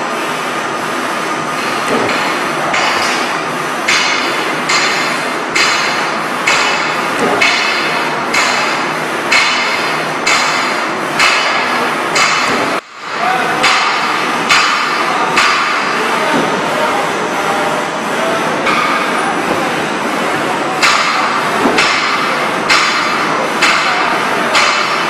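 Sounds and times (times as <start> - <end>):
production line running: 0.0 - 25.0
machine cutter striking: 1.6 - 16.6, 18.6 - 19.8, 20.7 - 25.0.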